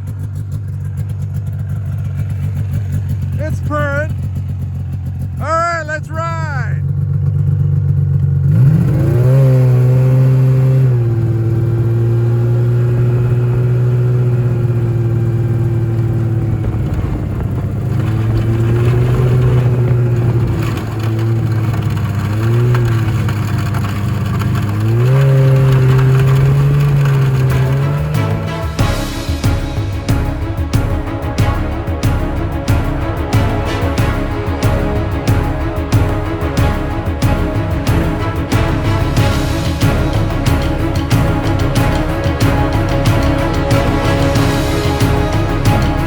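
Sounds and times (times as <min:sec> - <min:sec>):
snowmobile engine revving: 0:01.7 - 0:04.6, 0:05.4 - 0:06.9, 0:08.4 - 0:46.0.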